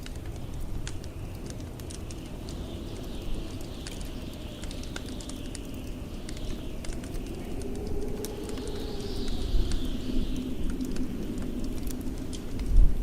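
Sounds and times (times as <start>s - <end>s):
howling blizzard wind: 0.0s - 13.0s
wood fire crackling and popping: 0.0s - 13.0s.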